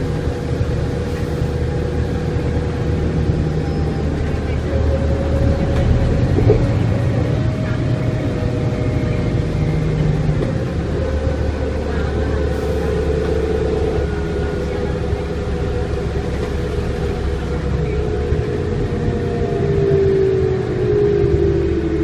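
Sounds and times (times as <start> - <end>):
bus engine droning: 0.0 - 22.0.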